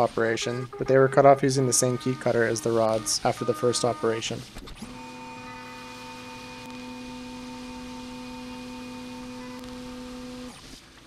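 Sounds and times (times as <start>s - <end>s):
milling machine cutter whine: 0.0s - 10.6s.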